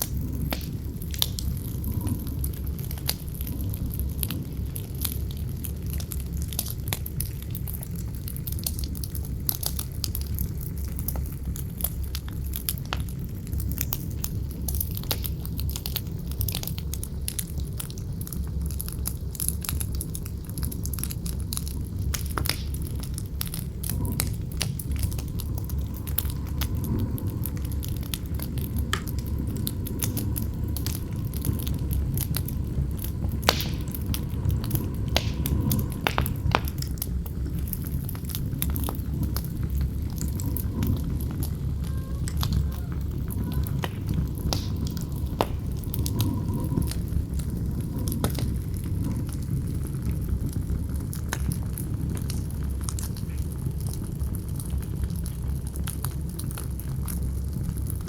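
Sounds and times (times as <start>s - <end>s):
campfire crackling and popping: 0.0s - 58.0s
low rumble of wind: 0.0s - 58.0s.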